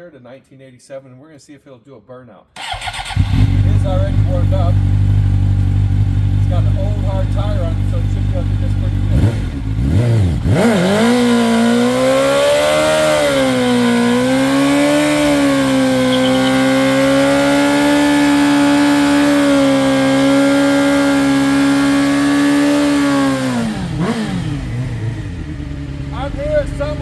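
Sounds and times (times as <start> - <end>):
motorcycle engine at high revs: 2.6 - 27.0.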